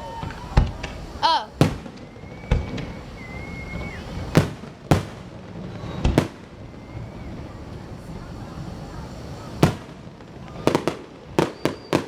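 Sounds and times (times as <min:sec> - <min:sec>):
fireworks bangs echoing: 0:00.0 - 0:12.0.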